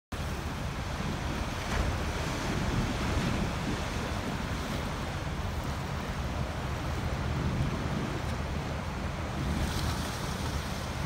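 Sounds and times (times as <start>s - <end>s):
wind buffeting microphone: 0.2s - 11.0s.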